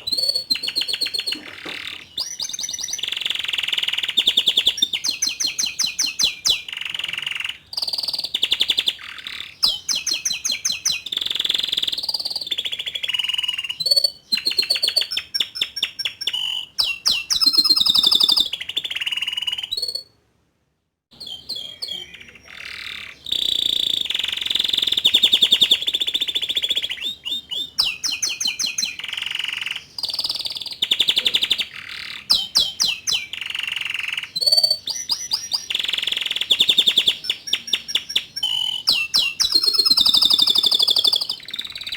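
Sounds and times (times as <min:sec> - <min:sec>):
canary singing trills: 0:00.0 - 0:20.2, 0:21.1 - 0:41.9.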